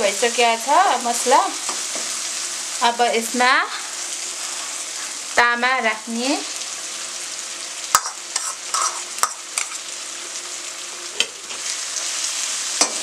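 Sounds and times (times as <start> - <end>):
bamboo shoots sizzling in a wok: 0.0 - 13.0.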